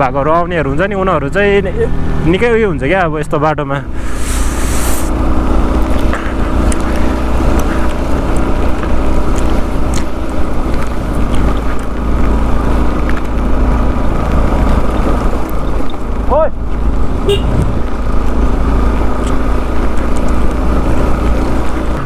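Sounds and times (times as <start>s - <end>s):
motorcycle engine running: 3.8s - 22.0s
wind rumbling on microphone: 3.8s - 22.0s.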